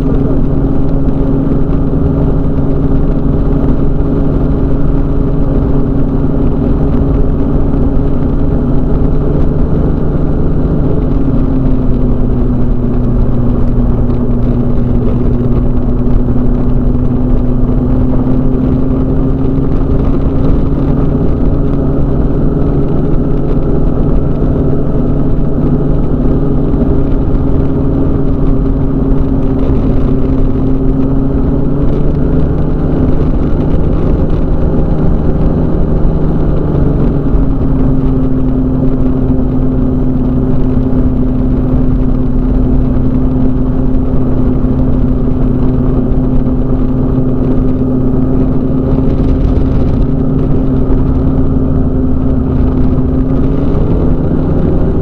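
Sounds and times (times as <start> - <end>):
microlight engine and propeller: 0.0 - 55.0.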